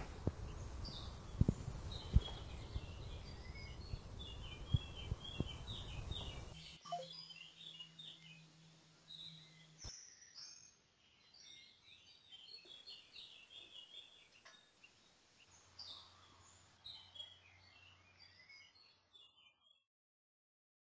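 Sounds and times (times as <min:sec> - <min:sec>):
faint songbird chirps: 0:00.0 - 0:19.9.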